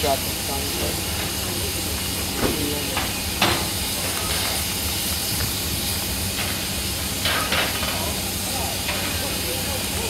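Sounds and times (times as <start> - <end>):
steam locomotive hissing: 0.0 - 10.0.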